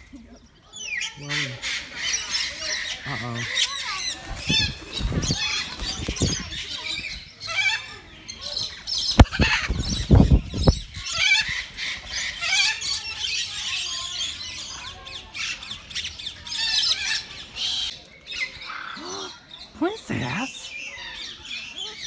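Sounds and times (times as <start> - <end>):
parrots squawking and chattering: 0.7 - 22.0.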